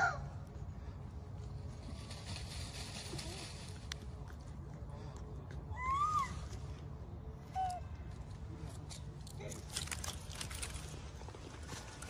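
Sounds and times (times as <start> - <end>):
scuffling and rustling on leaves: 0.0 - 12.0.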